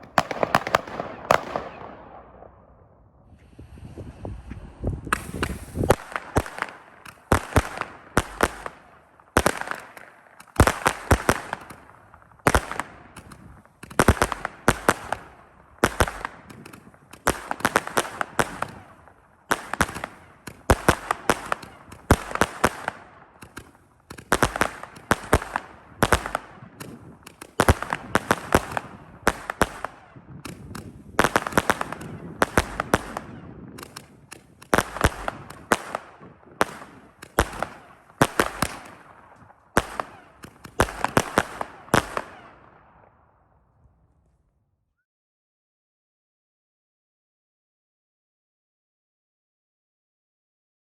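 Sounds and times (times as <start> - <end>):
firework bangs: 0.0 - 43.1.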